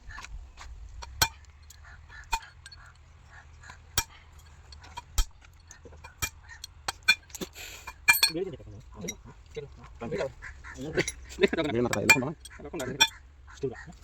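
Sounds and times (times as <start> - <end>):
metal tools clinking: 1.0 - 3.0, 3.7 - 14.0.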